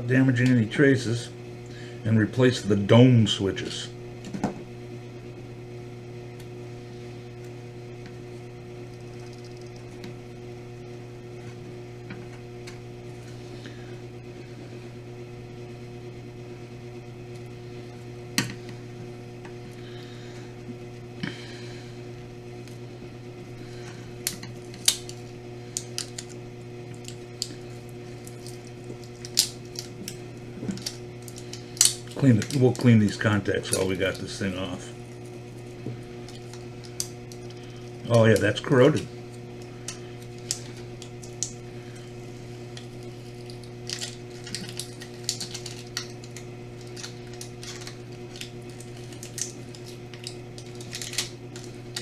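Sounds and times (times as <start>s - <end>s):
steady electrical hum: 0.0s - 52.0s.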